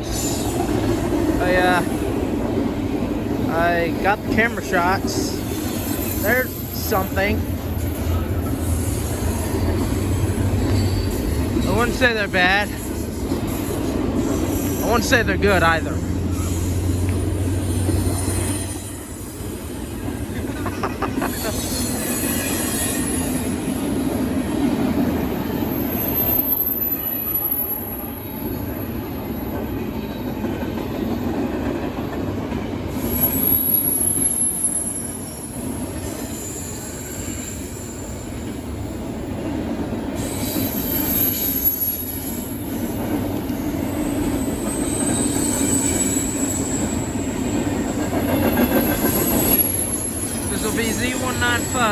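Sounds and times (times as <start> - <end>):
train wheels squealing: 0.0 - 2.2, 3.4 - 31.8, 32.9 - 51.9
freight train rumbling: 0.0 - 51.9.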